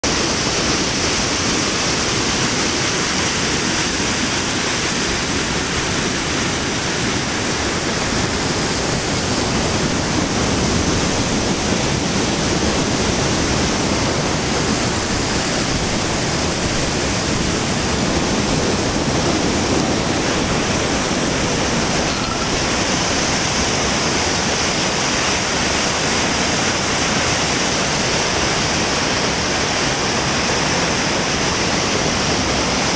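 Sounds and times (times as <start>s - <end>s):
waterfall rushing over rock: 0.0s - 32.9s.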